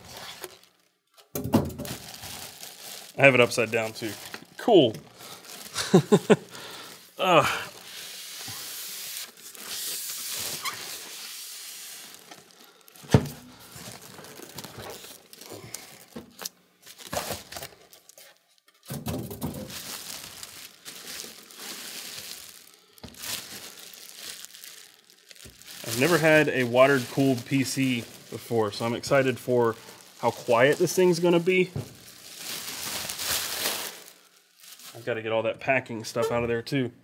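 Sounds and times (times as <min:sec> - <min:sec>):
plastic wrap crinkling: 0:00.0 - 0:36.6.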